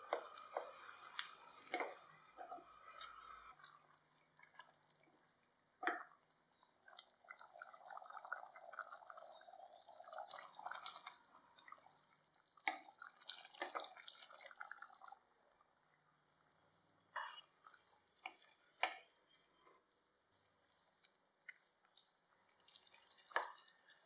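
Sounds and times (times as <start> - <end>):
thick sauce bubbling and popping: 0.0 - 24.0.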